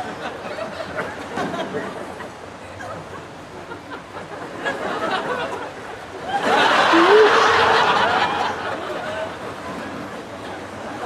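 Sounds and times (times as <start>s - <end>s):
audience laughter: 0.0s - 9.5s
low chatter: 0.0s - 11.0s.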